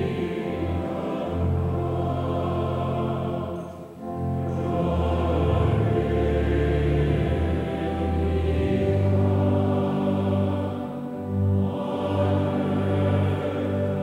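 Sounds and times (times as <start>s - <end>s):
congregation singing a prayer: 0.0s - 14.0s.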